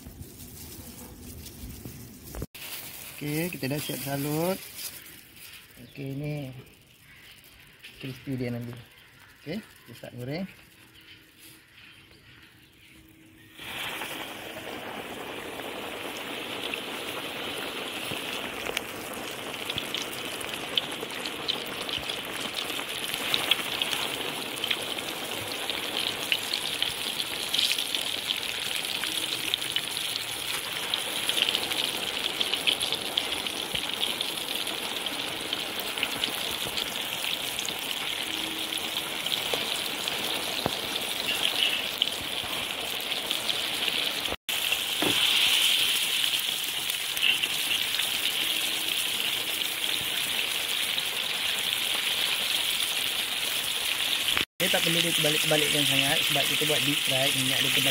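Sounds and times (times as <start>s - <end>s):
chicken deep-frying in hot oil: 0.0s - 57.9s.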